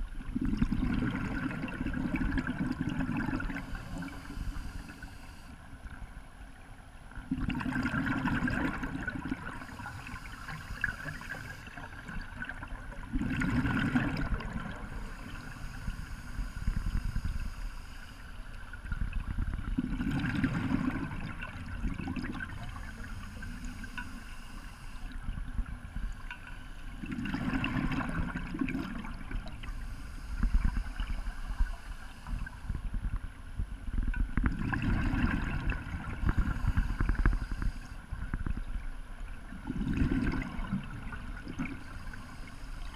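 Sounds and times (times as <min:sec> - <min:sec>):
low underwater rumble: 0:00.0 - 0:42.9
underwater bubbles gurgling: 0:00.0 - 0:42.9.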